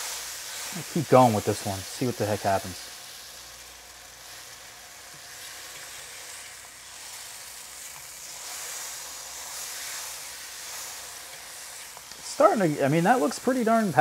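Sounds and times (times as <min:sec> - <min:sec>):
sugar sizzling in pan: 0:00.0 - 0:14.0.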